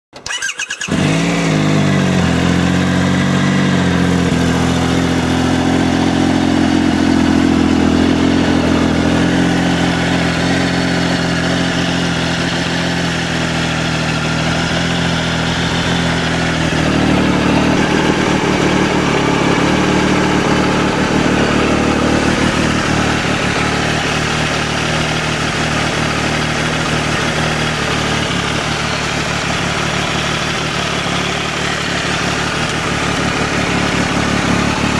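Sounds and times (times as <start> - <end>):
engine rattling: 0.1 - 34.9
motorcycle engine idling: 0.2 - 34.9.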